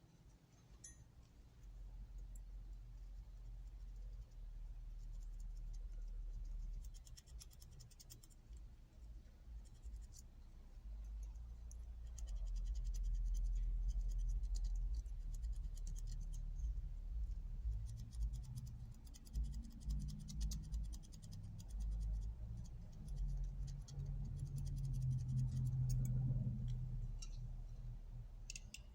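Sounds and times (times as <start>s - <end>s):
low hum: 0.8s - 28.9s.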